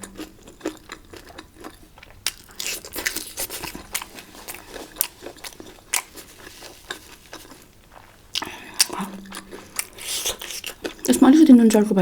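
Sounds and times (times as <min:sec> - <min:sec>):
person chewing food: 0:00.0 - 0:11.8.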